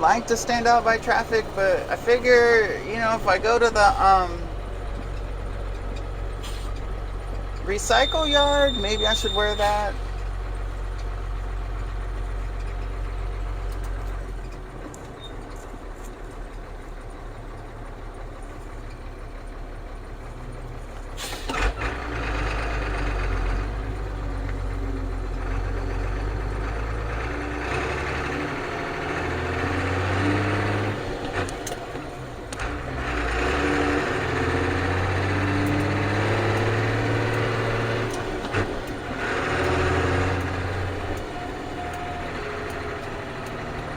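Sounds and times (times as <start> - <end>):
diesel truck engine shifting gears: 0.0 - 43.9.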